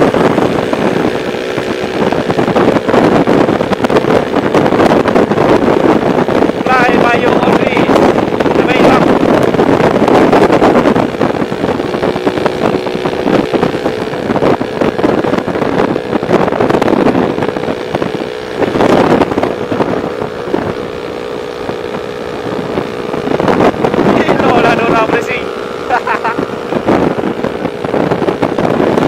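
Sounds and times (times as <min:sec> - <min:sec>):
motorcycle engine cruising: 0:00.0 - 0:29.0
wind rushing over microphone: 0:00.0 - 0:29.0.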